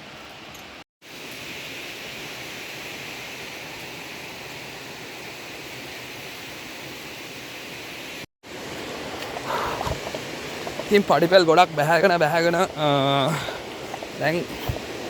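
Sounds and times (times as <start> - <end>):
waterfall rushing: 1.4 - 15.0.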